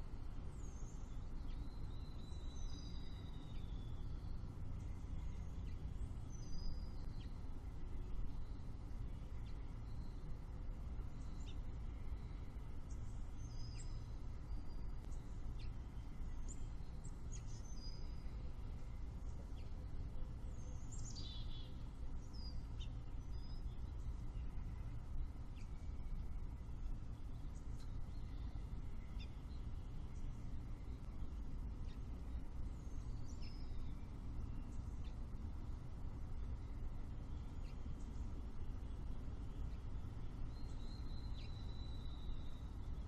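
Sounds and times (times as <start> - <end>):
low outdoor rumble: 0.0 - 43.0.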